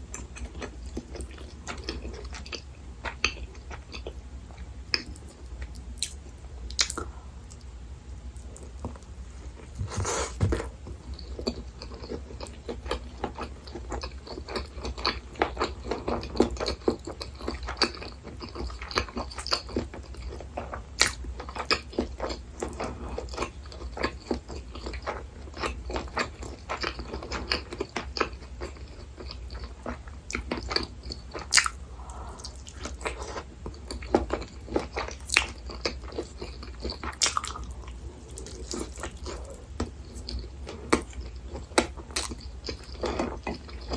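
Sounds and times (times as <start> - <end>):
steady low hum: 0.0 - 43.9
person chewing food: 0.1 - 43.9.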